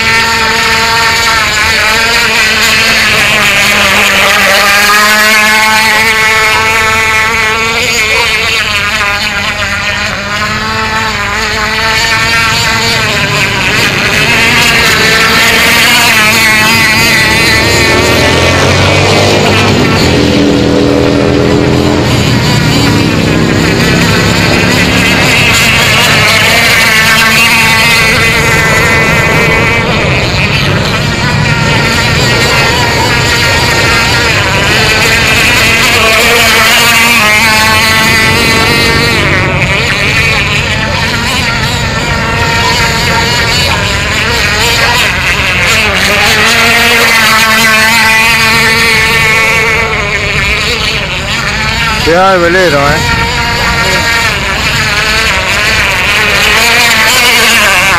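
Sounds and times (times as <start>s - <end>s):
model boat engine whining: 0.0s - 57.9s.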